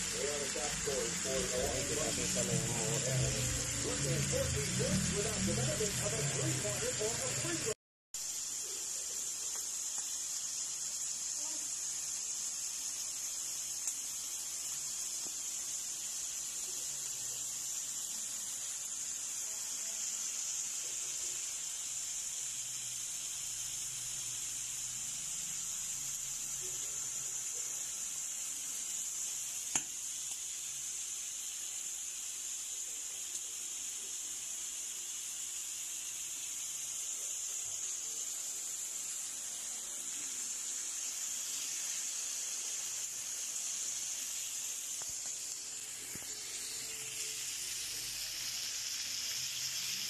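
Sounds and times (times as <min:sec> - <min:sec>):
meat sizzling on grill: 0:00.0 - 0:50.0.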